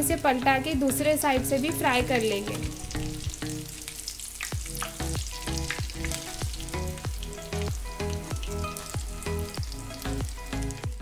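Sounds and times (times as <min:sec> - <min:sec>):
background music with steady beat: 0:00.0 - 0:11.0
cutlets sizzling in hot oil: 0:01.4 - 0:11.0.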